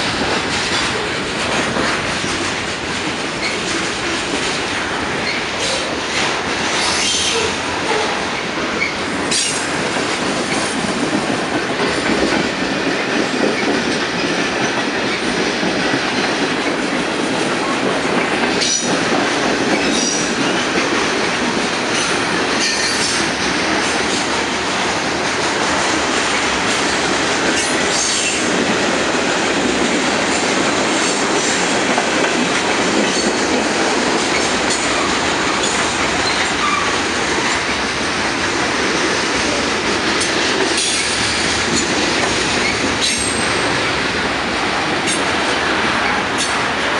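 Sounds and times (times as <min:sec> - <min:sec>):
train wheels on rails: 0:00.0 - 0:46.9.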